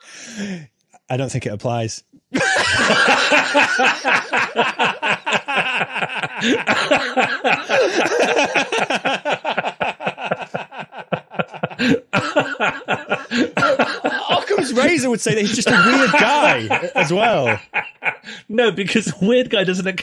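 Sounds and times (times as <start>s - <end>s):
men laughing heartily: 2.3s - 18.5s.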